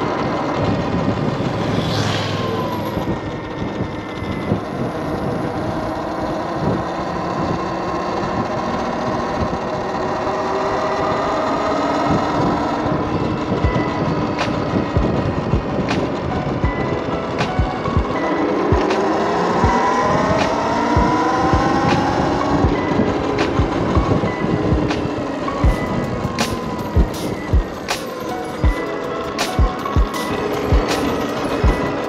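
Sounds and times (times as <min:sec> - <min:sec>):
electric motor whine: 0:00.0 - 0:32.0
wind and tyre noise: 0:00.0 - 0:32.0.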